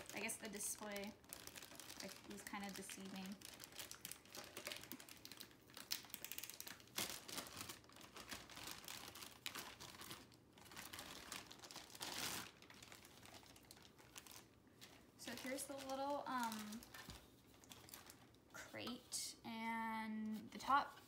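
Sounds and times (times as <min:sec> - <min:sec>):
plastic bag crinkling: 0:00.0 - 0:18.4.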